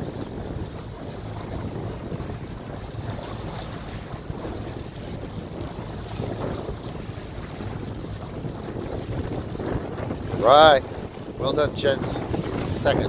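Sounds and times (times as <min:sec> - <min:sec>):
small waves washing: 0:00.0 - 0:13.0
wind buffeting microphone: 0:00.0 - 0:13.0.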